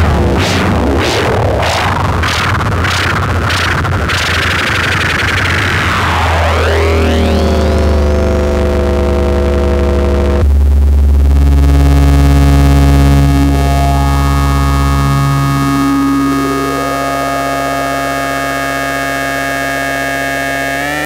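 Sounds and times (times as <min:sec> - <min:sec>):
synthesizer bass drone: 0:00.0 - 0:21.0.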